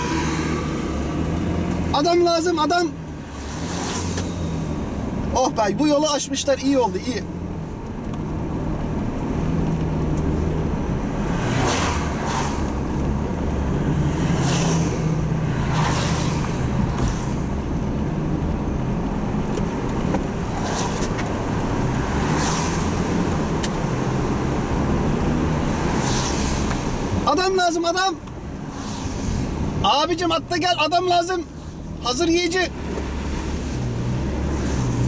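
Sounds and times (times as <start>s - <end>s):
car engine and tyre noise: 0.0s - 35.0s
passing traffic whooshes: 0.0s - 35.0s.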